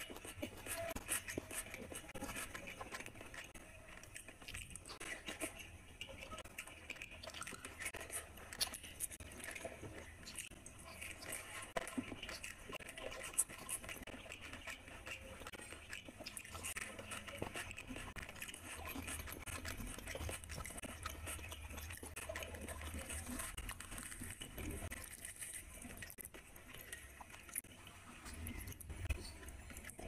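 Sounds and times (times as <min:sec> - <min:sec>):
person chewing wetly: 0:00.0 - 0:30.0.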